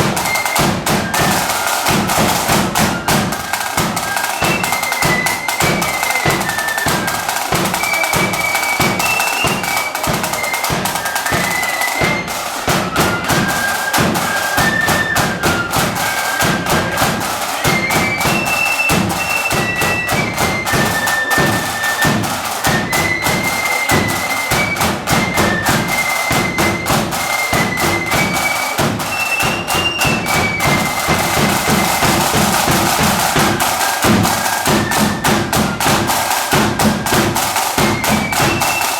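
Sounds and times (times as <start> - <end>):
marching band playing: 0.0 - 38.9
snare and bass drums: 0.0 - 38.9.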